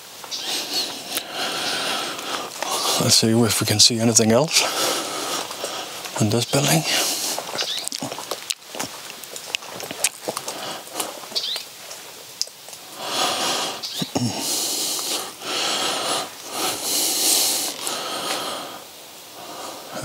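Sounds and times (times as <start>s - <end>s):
person breathing heavily: 0.4s - 8.3s, 10.2s - 11.4s, 12.8s - 20.0s.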